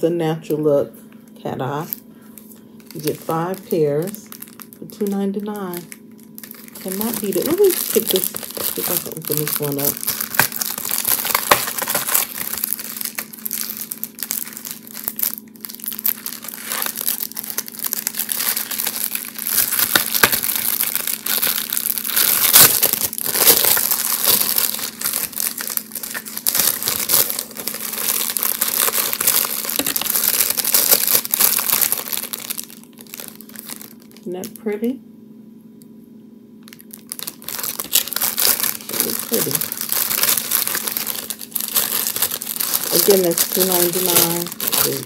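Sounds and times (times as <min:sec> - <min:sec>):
plastic packaging crinkling: 0:01.2 - 0:34.6, 0:36.6 - 0:45.0.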